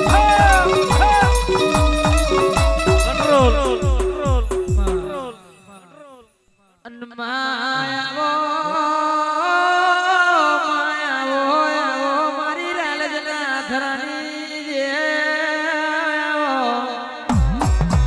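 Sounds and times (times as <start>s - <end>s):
man singing devotional alap: 0.0s - 6.3s, 6.9s - 17.4s.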